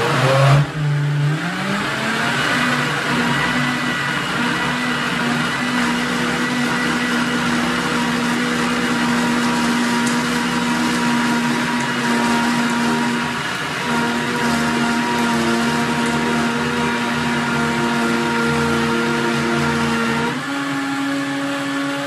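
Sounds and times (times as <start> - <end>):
blender running: 0.0 - 22.0.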